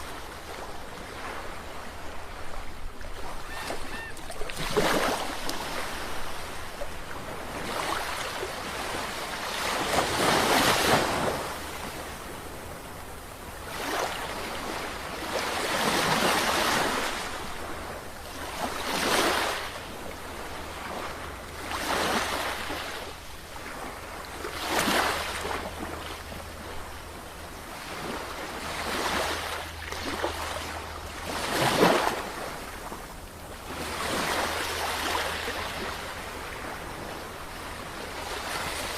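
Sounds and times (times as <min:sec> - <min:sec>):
sea waves breaking: 0:00.0 - 0:12.0, 0:13.6 - 0:26.9, 0:27.6 - 0:38.9.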